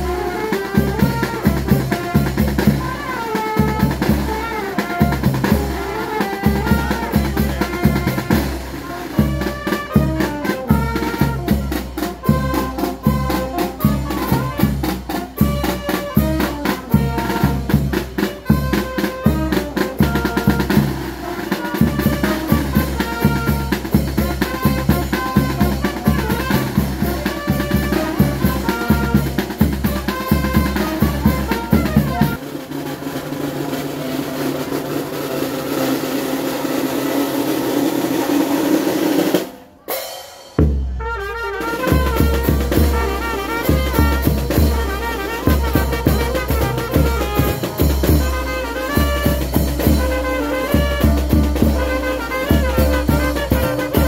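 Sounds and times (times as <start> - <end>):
bass and snare drum beat: 0.0 - 54.0
street band playing festive tune: 0.0 - 54.0
wind instrument melody: 0.0 - 54.0.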